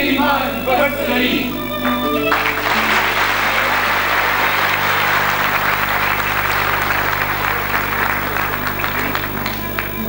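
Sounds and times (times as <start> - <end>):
large audience applauding: 1.8 - 10.0.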